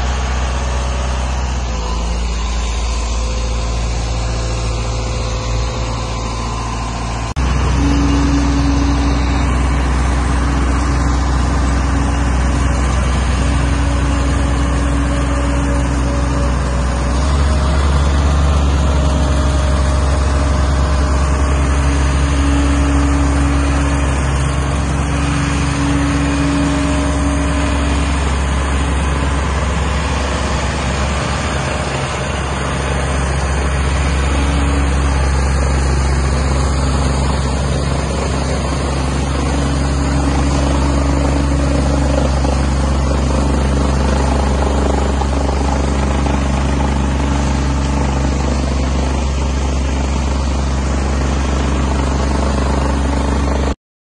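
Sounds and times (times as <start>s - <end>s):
diesel engine humming: 0.0s - 53.8s
higher hum: 0.0s - 53.8s.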